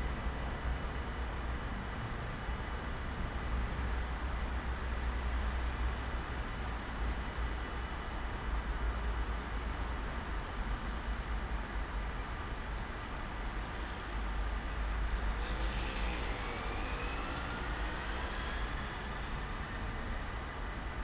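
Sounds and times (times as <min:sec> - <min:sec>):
road traffic rumble: 0:00.1 - 0:21.0.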